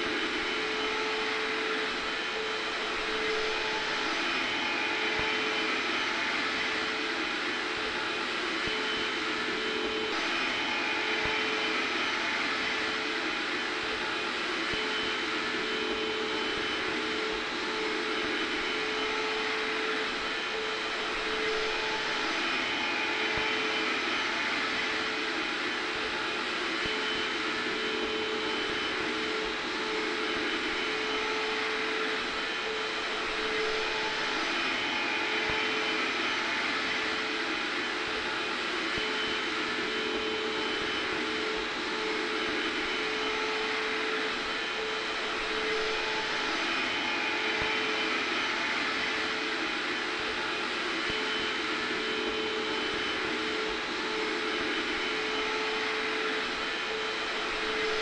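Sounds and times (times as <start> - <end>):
hair dryer blowing: 0.0 - 58.0
vacuum cleaner running: 0.0 - 58.0.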